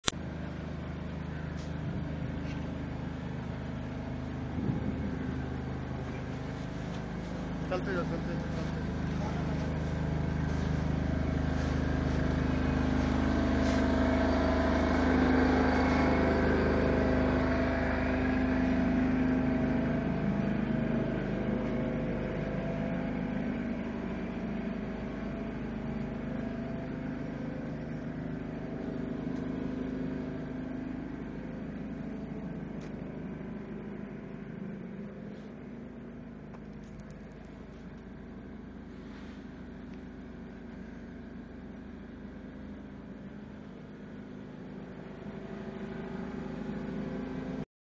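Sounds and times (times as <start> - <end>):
vehicle engine running: 0.0 - 47.6.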